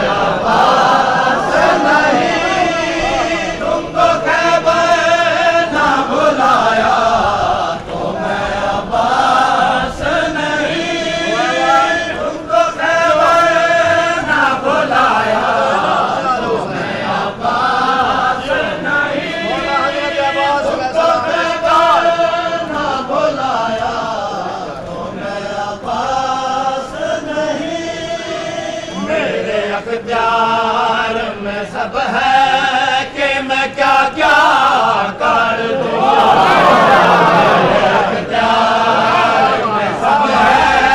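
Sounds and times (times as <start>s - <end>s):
men chanting in unison: 0.0s - 40.9s.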